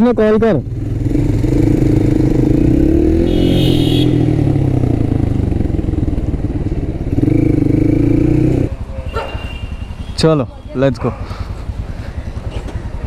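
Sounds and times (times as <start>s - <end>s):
motorcycle engine running: 0.1s - 13.0s.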